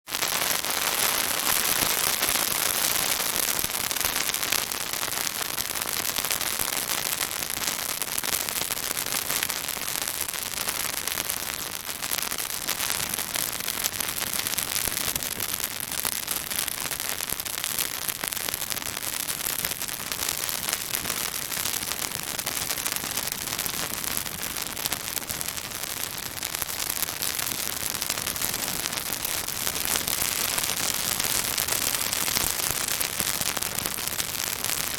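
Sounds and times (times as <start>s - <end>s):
bonfire crackling and popping: 0.1s - 34.9s.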